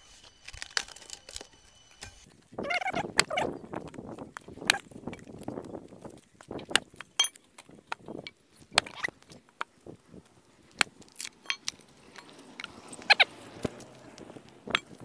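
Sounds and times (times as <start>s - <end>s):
axe splitting firewood: 0.0s - 15.0s
split wood pieces clattering: 0.1s - 15.0s.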